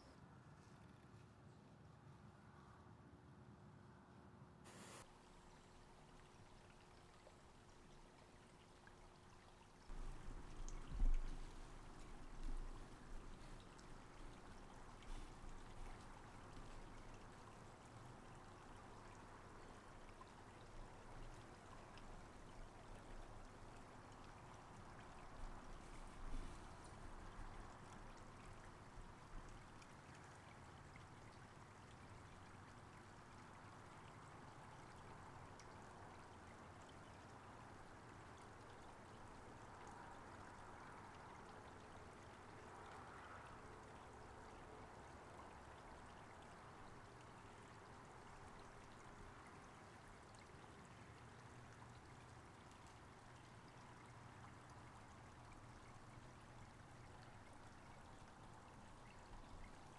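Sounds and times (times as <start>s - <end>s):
creek trickling over rocks: 5.0s - 59.9s.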